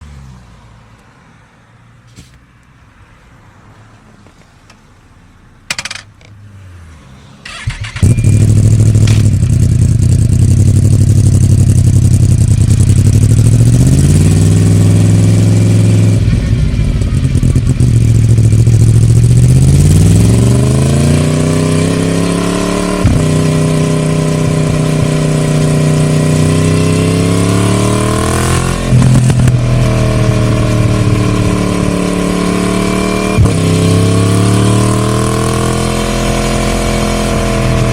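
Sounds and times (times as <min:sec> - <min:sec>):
motorcycle engine revving through gears: 0:07.4 - 0:37.9.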